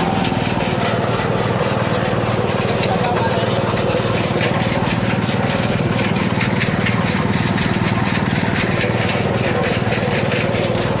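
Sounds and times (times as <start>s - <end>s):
grinding machine running: 0.0s - 11.0s.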